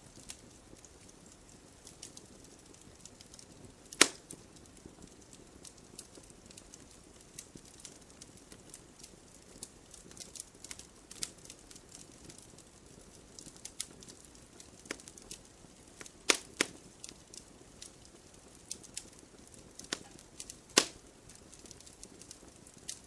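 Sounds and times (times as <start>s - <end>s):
campfire crackling and popping: 0.0s - 23.0s
low fire hiss: 0.0s - 23.0s.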